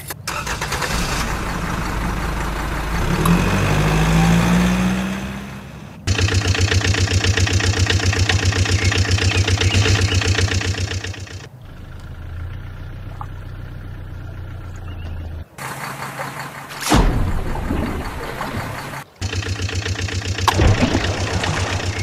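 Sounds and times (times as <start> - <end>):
engine chugging: 0.3 - 16.9, 17.6 - 22.0.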